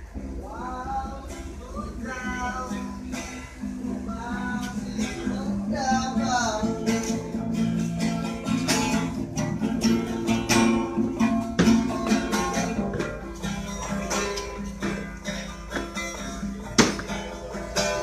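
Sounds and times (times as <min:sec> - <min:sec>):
strummed acoustic guitar music: 0:00.0 - 0:18.0.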